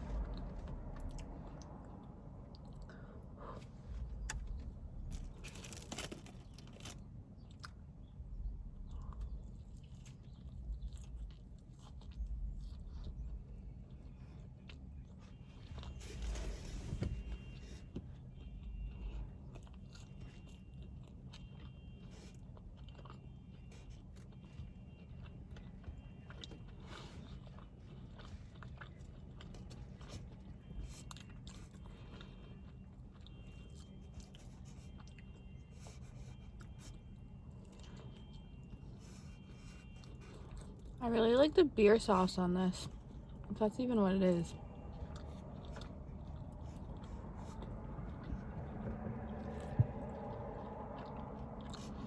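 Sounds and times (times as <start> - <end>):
chewing and biting food: 0.0 - 41.0, 44.4 - 52.0
low steady hum: 0.0 - 52.0.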